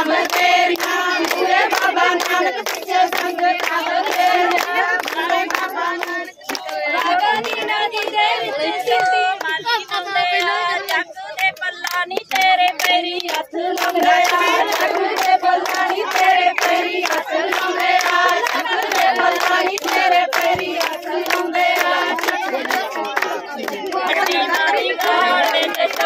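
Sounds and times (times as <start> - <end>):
rhythmic hand clapping: 0.0 - 26.0
women and girls singing in chorus: 0.0 - 26.0.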